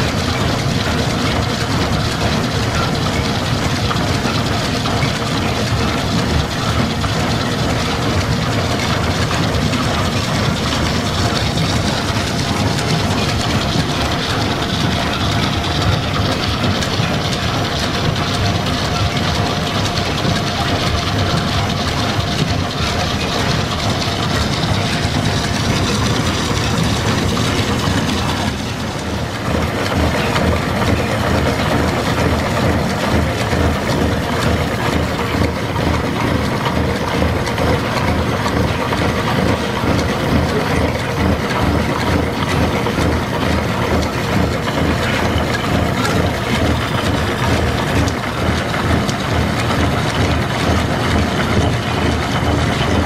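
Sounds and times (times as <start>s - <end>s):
milling machine clatter and rumble: 0.0s - 53.0s.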